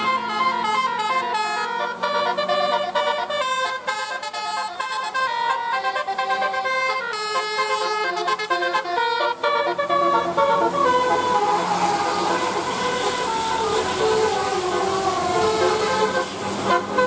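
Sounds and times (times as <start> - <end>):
multi-tone air horn tune: 0.0 - 17.0.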